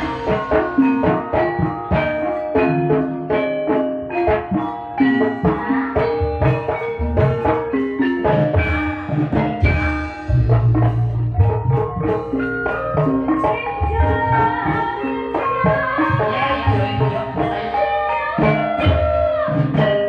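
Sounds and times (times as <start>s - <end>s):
hand drum strokes: 0.0s - 20.0s
heavy low drum beats: 0.0s - 20.0s.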